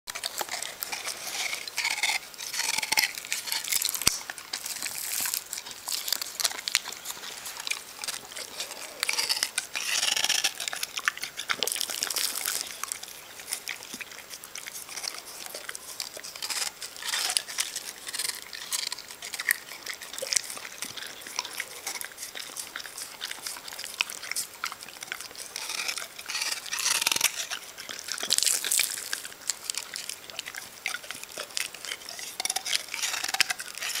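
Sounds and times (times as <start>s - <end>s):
dog crunching ice: 0.1s - 34.0s.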